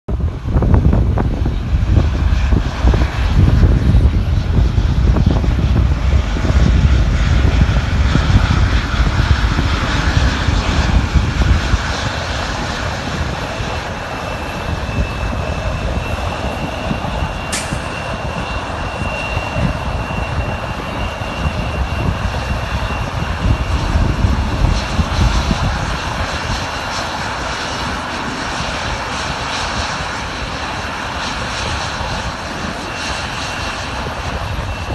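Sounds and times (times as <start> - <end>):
jet engines roaring: 0.1 - 34.9.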